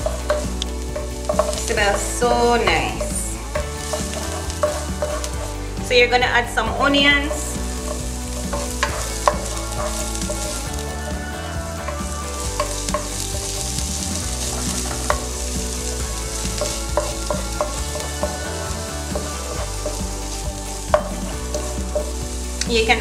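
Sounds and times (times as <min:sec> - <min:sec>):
wooden spoon knocking on pan: 0:00.0 - 0:05.5, 0:06.5 - 0:22.2
onion sizzling in hot oil: 0:00.0 - 0:23.0.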